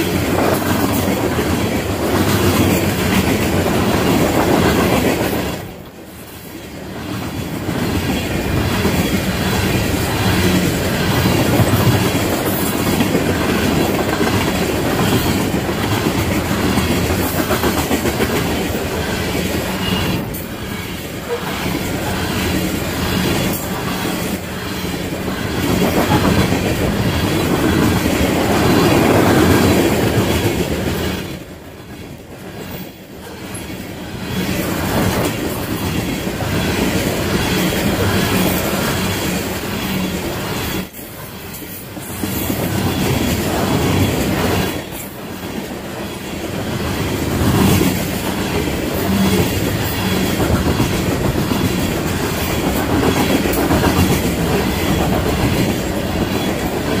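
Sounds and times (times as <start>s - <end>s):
clickety-clack over rail joints: 0.0s - 57.0s
train cars rumbling past: 0.0s - 57.0s.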